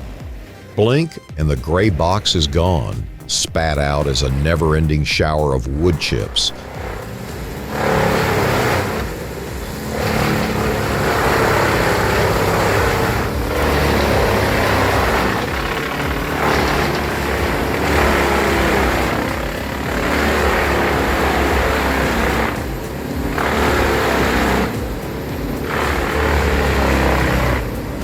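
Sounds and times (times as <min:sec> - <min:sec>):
wood chipper chipping wood: 0:00.0 - 0:28.0.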